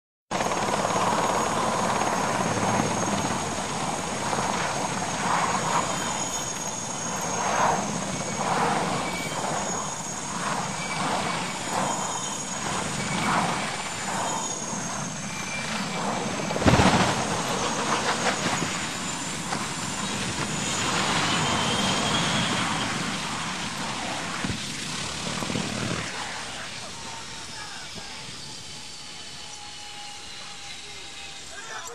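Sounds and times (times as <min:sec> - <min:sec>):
helicopter turbines and rotor: 0:00.3 - 0:31.9
helicopter crashing into ground: 0:00.4 - 0:26.6.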